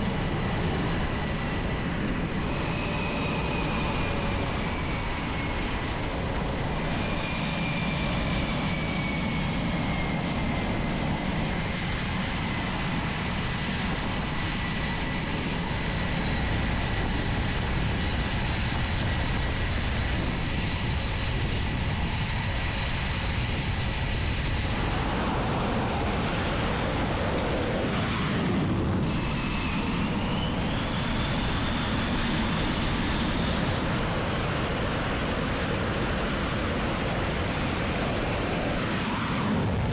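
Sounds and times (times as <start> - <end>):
jet engines roaring: 0.0 - 39.9
turbine whine rising in pitch: 0.0 - 39.9.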